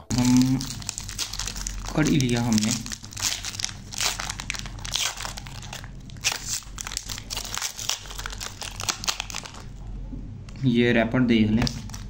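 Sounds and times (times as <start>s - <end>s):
foil wrapper crinkling: 0.0s - 9.8s, 11.6s - 12.0s.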